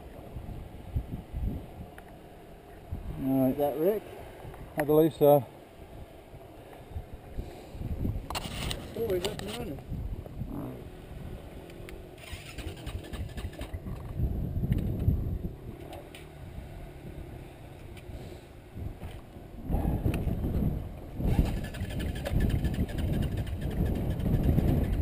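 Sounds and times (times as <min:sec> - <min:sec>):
dirt bike engine rumbling: 0:00.0 - 0:25.0.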